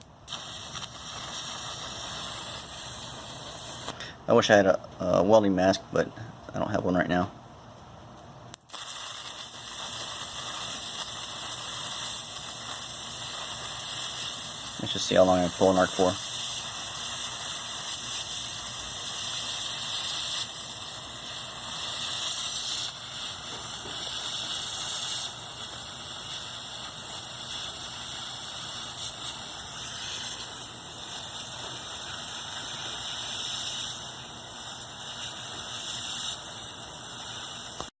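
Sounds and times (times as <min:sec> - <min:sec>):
electric arc hissing: 0:00.0 - 0:04.1, 0:08.6 - 0:37.9.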